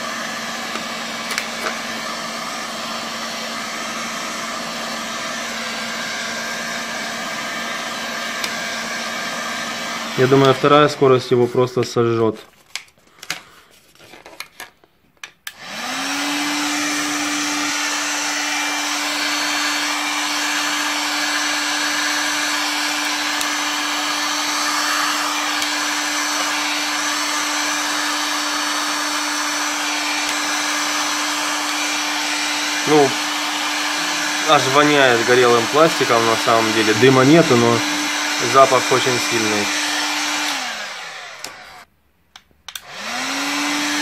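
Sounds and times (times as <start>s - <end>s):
heat gun fan whine: 0.0s - 11.1s, 15.4s - 41.9s, 42.7s - 44.0s.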